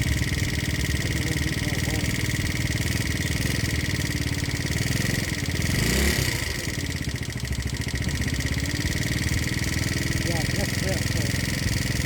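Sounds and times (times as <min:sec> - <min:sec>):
motorbike engine idling and revving: 0:00.0 - 0:12.0.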